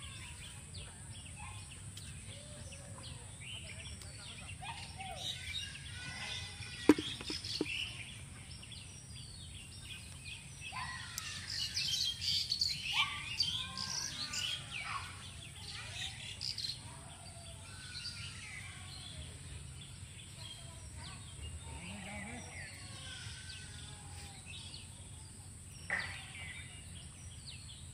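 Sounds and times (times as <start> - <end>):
birds chirping and calling: 0.0 - 27.9.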